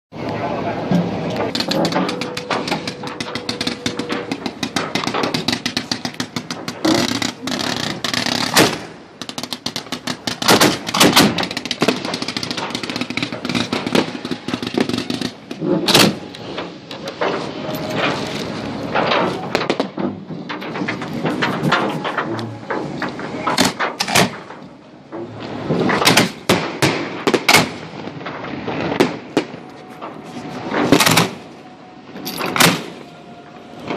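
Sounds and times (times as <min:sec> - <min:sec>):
fireworks bangs: 0:01.0 - 0:24.6, 0:25.4 - 0:33.0
fireworks crackling and popping: 0:01.0 - 0:24.8, 0:25.4 - 0:33.0.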